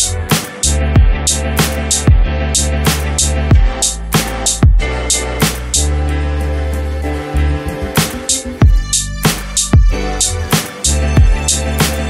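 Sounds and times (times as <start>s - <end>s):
electronic beat music: 0.0s - 12.0s
held bass line: 0.0s - 12.0s.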